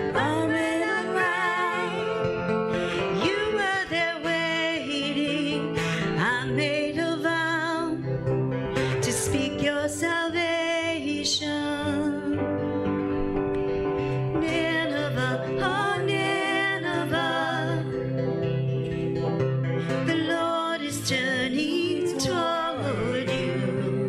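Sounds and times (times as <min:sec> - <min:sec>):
song with singing voice: 0:00.0 - 0:12.6, 0:14.0 - 0:19.0, 0:19.8 - 0:24.0.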